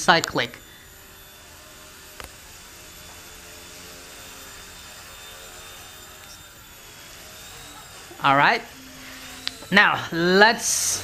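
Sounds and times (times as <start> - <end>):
toy helicopter whirring: 0.0 - 11.0.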